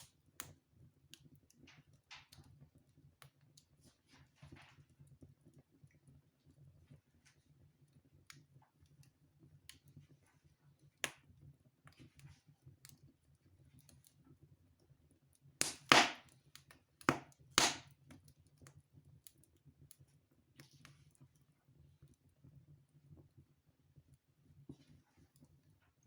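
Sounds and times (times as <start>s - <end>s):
wood fire crackling and popping: 0.0s - 22.3s.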